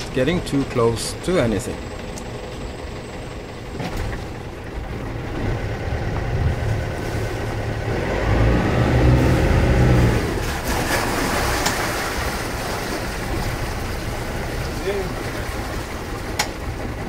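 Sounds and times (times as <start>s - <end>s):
diesel boat engine running: 0.0s - 17.0s.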